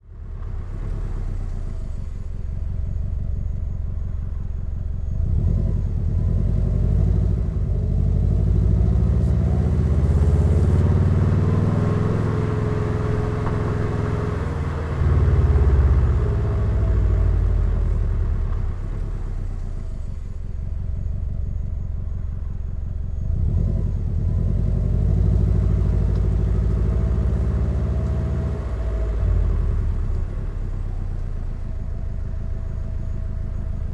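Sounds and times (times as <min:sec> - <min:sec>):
turbocharged car engine and exhaust: 0:00.0 - 0:33.9.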